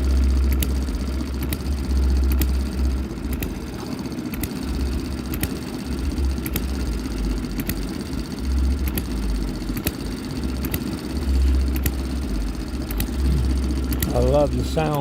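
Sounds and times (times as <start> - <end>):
engine low thudding: 0.0 - 15.0.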